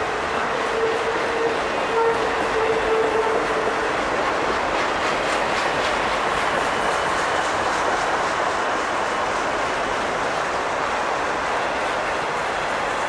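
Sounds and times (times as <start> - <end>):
train wheels clicking on rails: 0.0 - 13.0.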